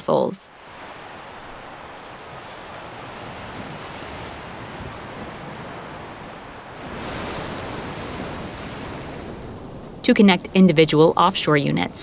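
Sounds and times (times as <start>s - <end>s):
waves rushing: 0.0s - 12.0s
wind: 0.0s - 12.0s.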